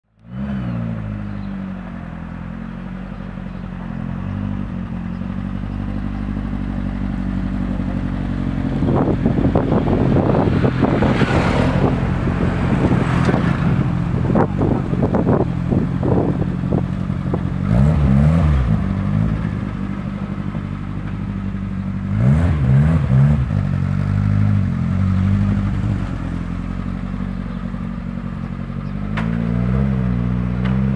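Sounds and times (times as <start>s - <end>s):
van engine running: 0.4s - 30.9s.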